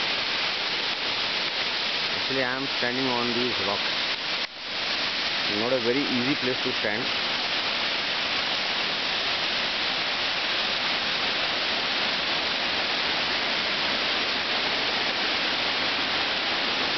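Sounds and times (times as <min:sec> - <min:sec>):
waterfall rushing over boulders: 0:00.0 - 0:16.9.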